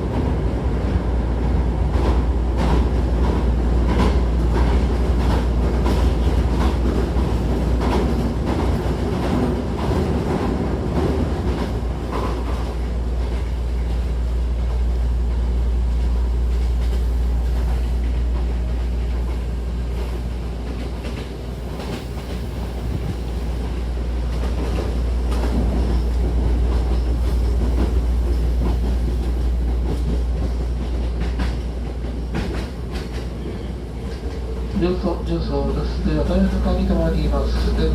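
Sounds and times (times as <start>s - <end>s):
electric train rumble: 0.0s - 37.9s.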